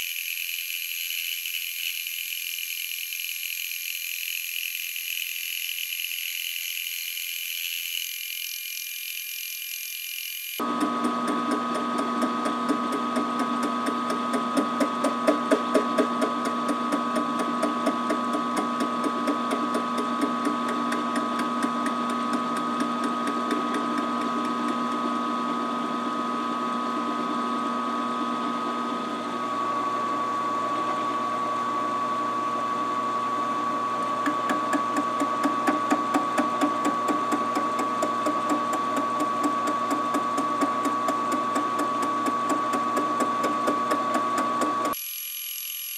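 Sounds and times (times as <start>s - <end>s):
milling machine motor whine: 0.0s - 45.9s.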